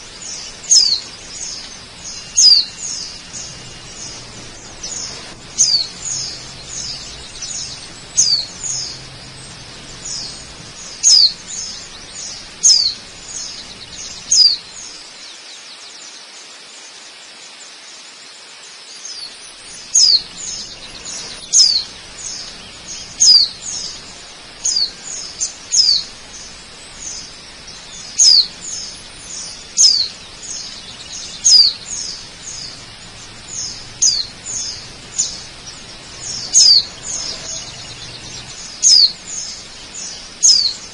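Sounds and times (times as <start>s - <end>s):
birds chirping downward notes: 0.0s - 15.2s, 19.2s - 40.9s
waterfall hiss: 0.0s - 40.9s.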